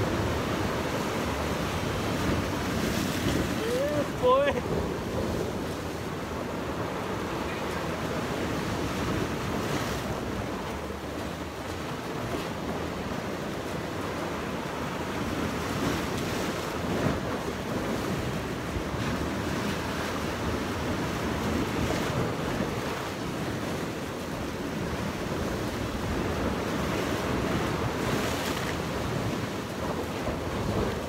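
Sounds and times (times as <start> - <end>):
waves breaking on rocks: 0.0 - 31.0.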